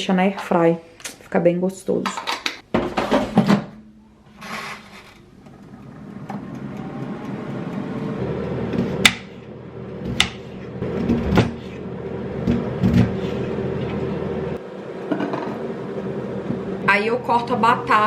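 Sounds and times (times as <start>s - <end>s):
appliance fan humming: 0.0s - 18.0s.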